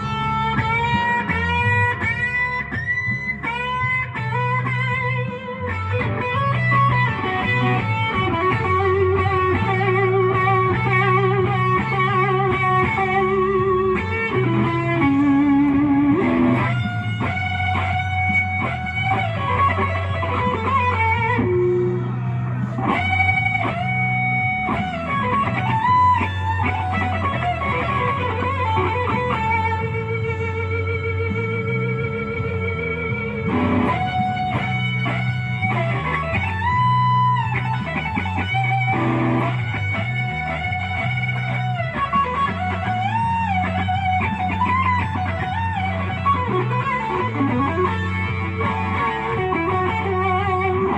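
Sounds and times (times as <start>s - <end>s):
electric guitar blues lead: 0.0s - 50.9s
low bass notes: 0.0s - 50.9s.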